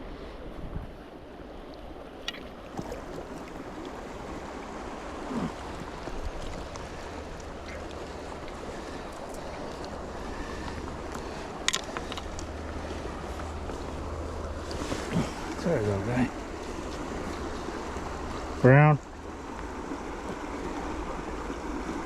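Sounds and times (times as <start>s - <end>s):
river water rushing: 2.2s - 22.0s.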